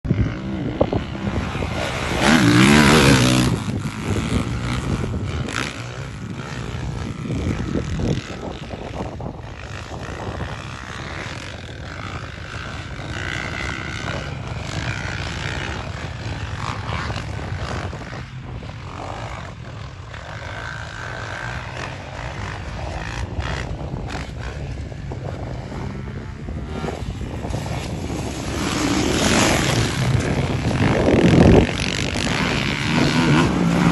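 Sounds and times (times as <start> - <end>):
motocross bike engines revving: 0.1 - 33.9.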